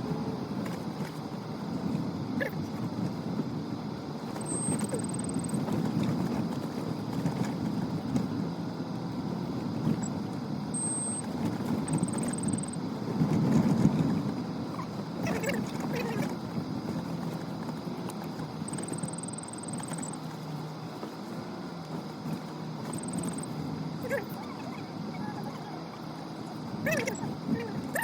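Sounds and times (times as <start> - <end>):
vehicle engine and tyres rumbling: 0.0 - 28.0.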